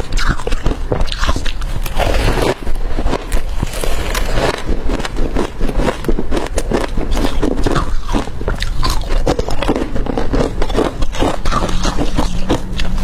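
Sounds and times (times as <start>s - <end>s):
crushed ice crunching: 1.8s - 13.0s.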